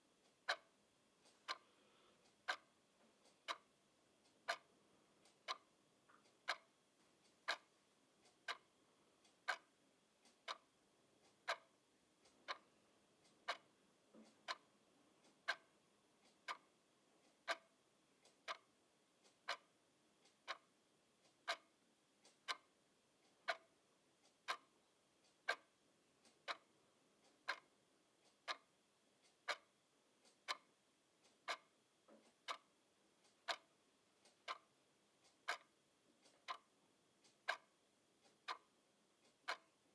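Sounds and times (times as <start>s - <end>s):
clock ticking: 0.2s - 39.8s.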